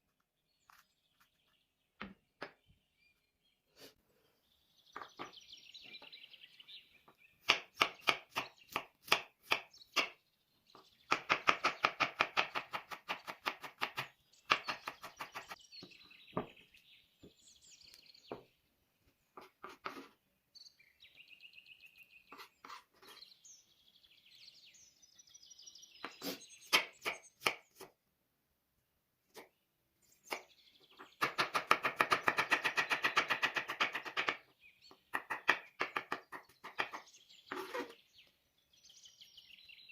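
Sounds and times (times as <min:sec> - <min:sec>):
birds chirping: 0:00.1 - 0:28.0, 0:29.3 - 0:39.9.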